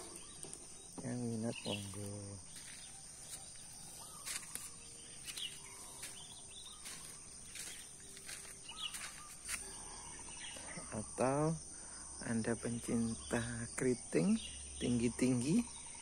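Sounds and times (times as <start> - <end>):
bird chirps: 0.0 - 16.0
high-pitched insect drone: 0.0 - 16.0.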